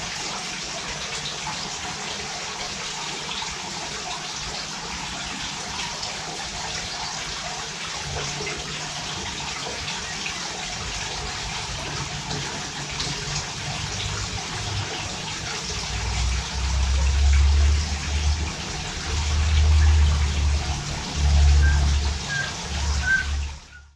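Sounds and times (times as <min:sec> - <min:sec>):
steady hiss like running water: 0:00.0 - 0:23.9.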